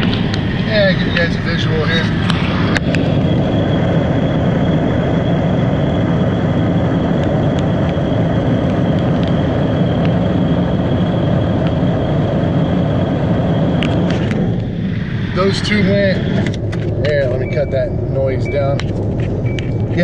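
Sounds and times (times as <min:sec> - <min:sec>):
car road and wind noise: 0:00.0 - 0:20.0
thin high whine: 0:00.0 - 0:20.0.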